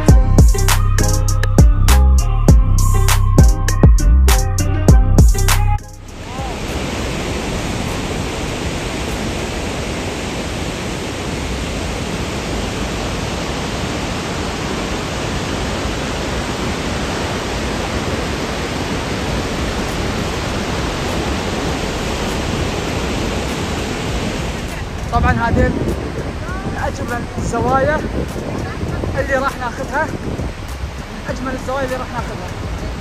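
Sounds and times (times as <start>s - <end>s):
waterfall rushing: 6.0s - 33.0s.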